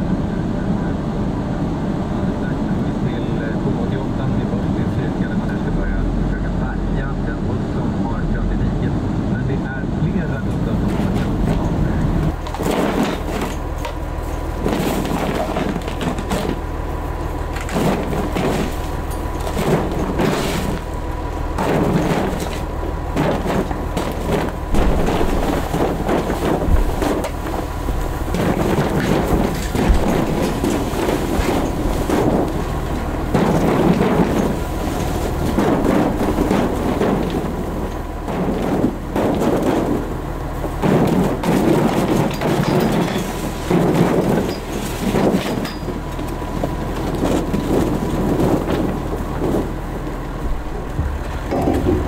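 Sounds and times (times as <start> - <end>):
low wind rumble: 0.0 - 52.0
wind buffeting fabric cover: 9.1 - 52.0.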